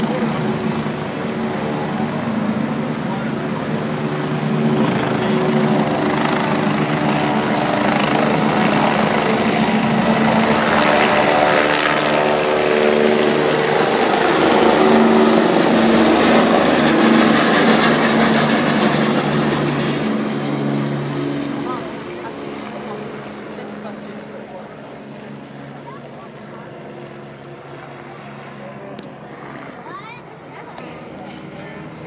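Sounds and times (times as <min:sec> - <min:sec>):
helicopter engine noise: 0:00.0 - 0:32.0
helicopter rotor blades beating: 0:00.0 - 0:32.0.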